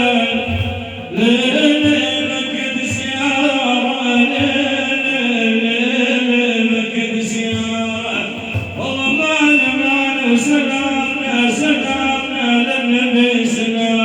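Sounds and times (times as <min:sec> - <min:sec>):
man singing praise song: 0:00.0 - 0:14.0.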